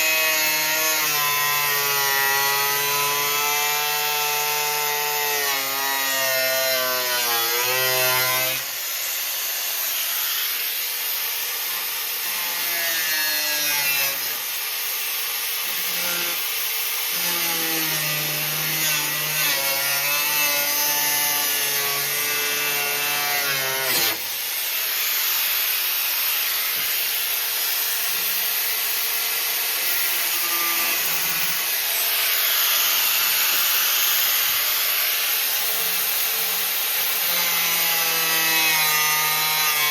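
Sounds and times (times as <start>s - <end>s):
power tool cutting steel tubing: 0.0s - 39.9s.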